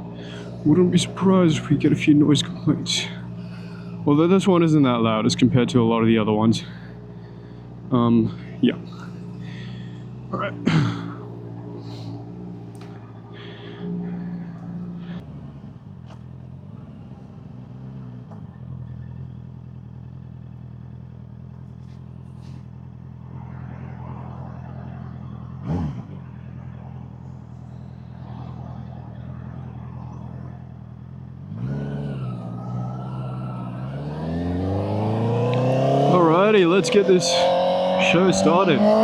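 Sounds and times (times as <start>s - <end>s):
throttle blip and revving: 0.0s - 15.3s, 22.6s - 39.0s
motorcycle engine idling: 0.0s - 35.0s.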